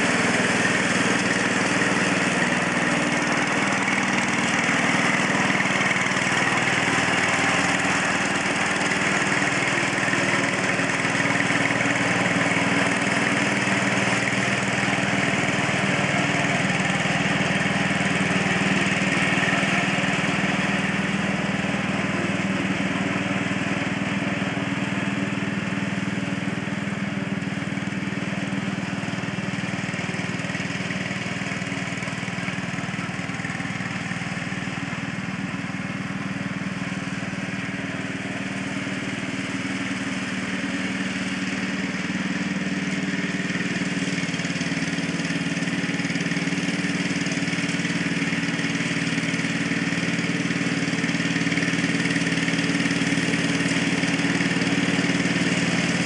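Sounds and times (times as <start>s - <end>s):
riding tractor engine running: 0.0s - 56.0s.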